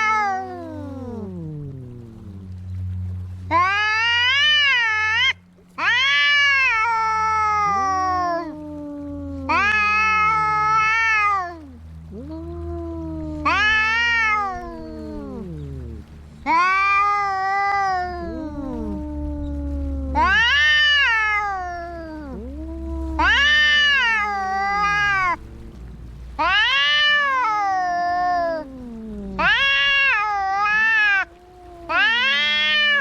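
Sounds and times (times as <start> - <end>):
cats yowling: 0.0 - 2.5, 3.4 - 33.0
low falling moans: 0.0 - 33.0
steady low hum: 0.0 - 33.0.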